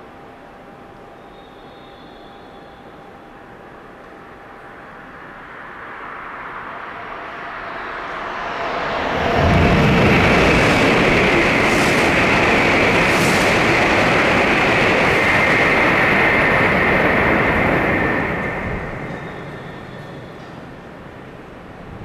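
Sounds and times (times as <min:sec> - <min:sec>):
high-speed train rushing past: 0:00.0 - 0:22.0.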